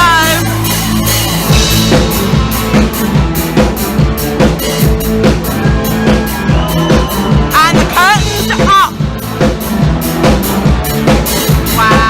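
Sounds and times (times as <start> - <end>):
bass line: 0.0 - 12.0
drum kit beat: 0.0 - 12.0
live rock band playing: 0.0 - 12.0.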